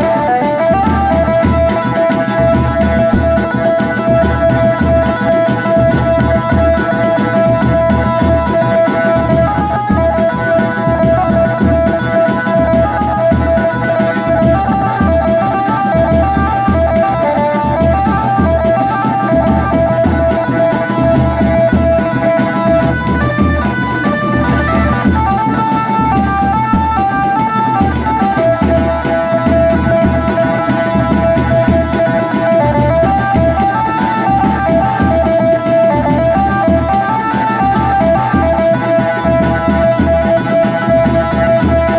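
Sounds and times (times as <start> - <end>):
lead instrument melody: 0.0 - 41.9
pounding drum beat: 0.0 - 41.9.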